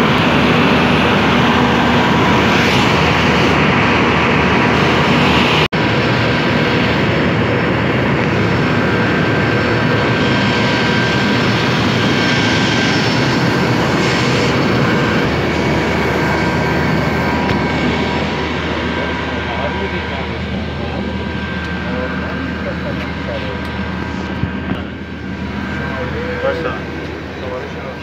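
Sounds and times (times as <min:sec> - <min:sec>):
jet turbine noise: 0:00.0 - 0:28.0.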